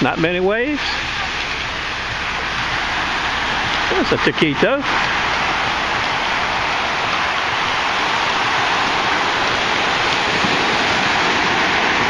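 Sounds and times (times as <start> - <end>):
waves breaking on a beach: 0.0 - 12.0.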